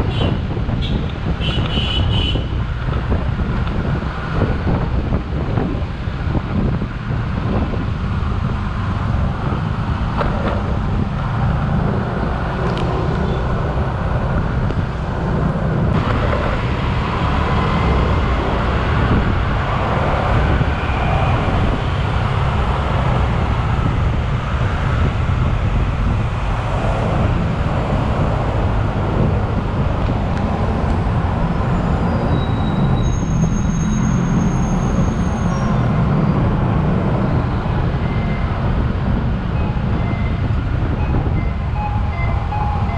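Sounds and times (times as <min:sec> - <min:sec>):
road noise: 0:00.0 - 0:42.9.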